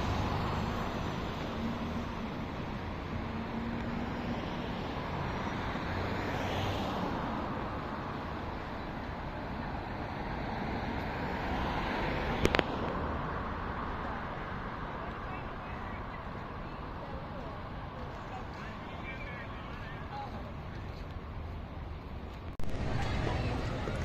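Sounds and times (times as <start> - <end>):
distant road traffic hum: 0.0 - 24.0.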